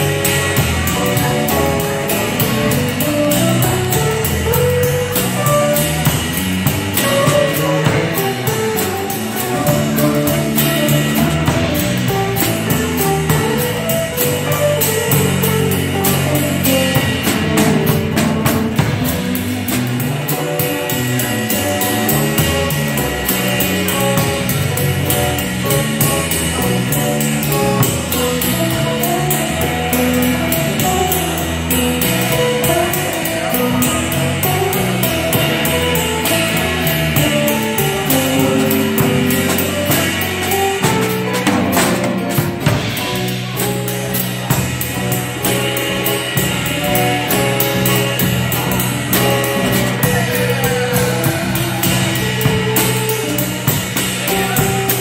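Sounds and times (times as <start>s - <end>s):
bass: 0.0s - 55.0s
jazz guitar: 0.0s - 55.0s.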